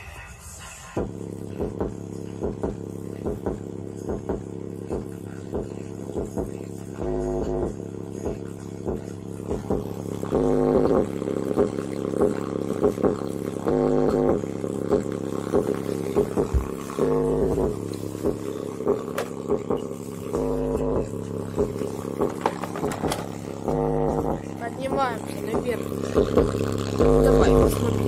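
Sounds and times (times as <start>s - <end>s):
bass-heavy music through woofer: 0.0s - 28.0s.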